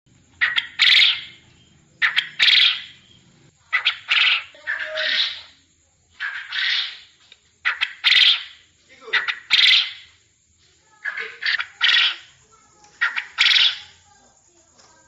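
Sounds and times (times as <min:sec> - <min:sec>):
bird calling in rasping phrases: 0:00.2 - 0:10.2, 0:10.9 - 0:14.1.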